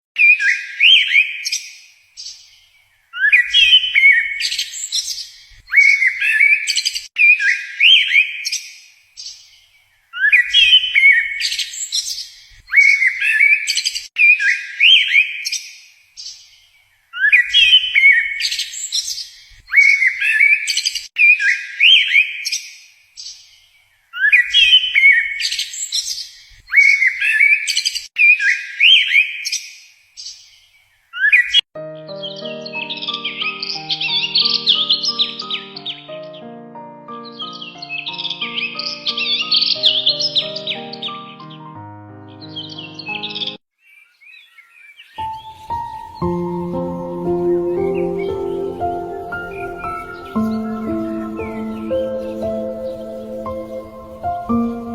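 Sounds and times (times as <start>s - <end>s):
bird chirping: 0.2s - 54.9s.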